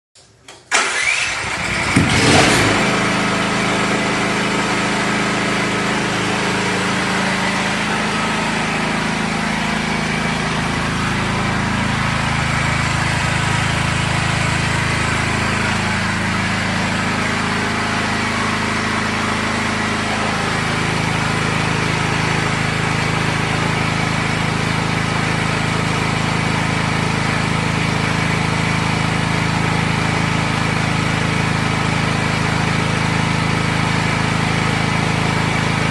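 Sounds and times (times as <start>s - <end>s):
portable generator engine running: 0.7s - 35.9s.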